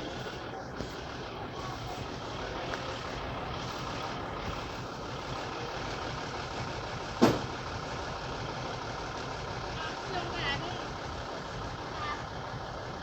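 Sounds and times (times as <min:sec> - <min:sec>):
diesel train idling: 0:00.0 - 0:13.0.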